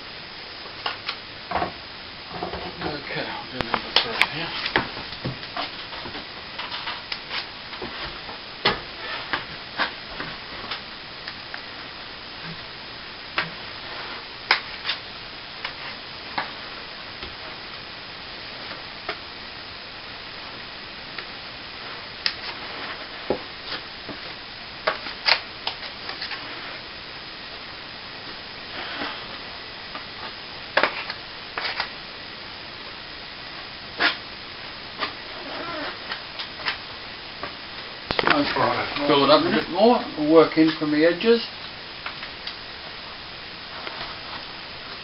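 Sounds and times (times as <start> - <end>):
steady hiss: 0.0 - 45.0.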